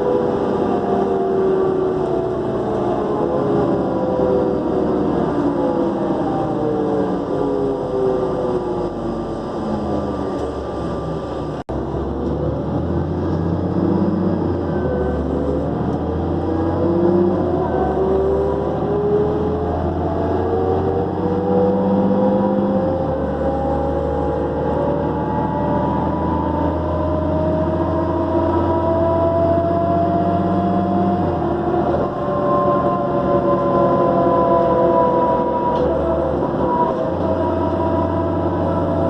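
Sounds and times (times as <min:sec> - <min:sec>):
diesel bus engine: 0:00.0 - 0:39.0
turbocharger whining: 0:00.0 - 0:39.0.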